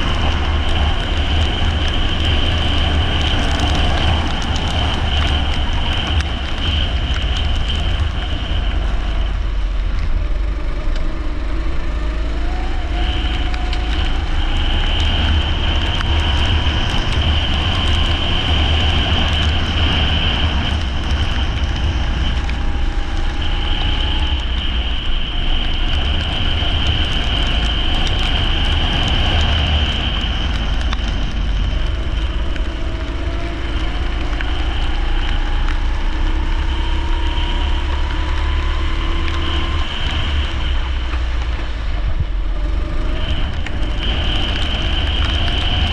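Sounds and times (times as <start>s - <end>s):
high whine: 0.0s - 45.9s
kart engine accelerating: 6.8s - 45.9s.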